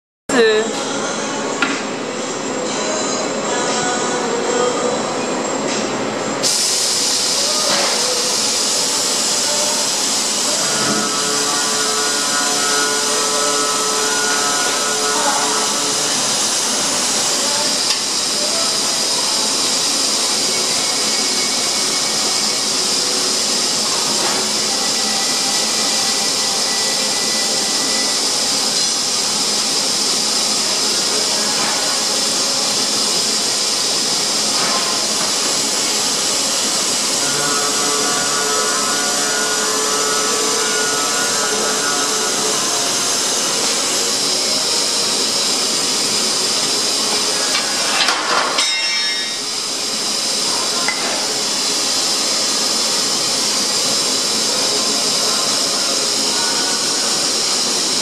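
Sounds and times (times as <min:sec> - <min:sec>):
circular saw machine hissing: 0:03.8 - 0:58.0.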